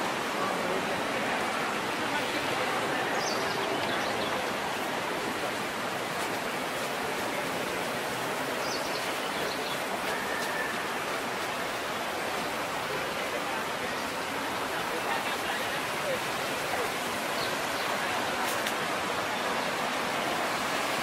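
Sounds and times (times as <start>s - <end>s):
street ambience hiss: 0.0s - 21.0s.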